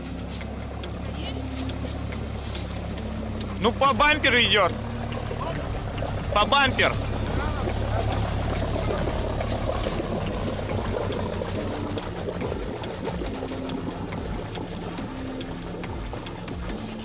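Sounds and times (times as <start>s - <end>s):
low engine rumble: 0.0s - 17.0s
water churning and splashing: 0.0s - 17.0s.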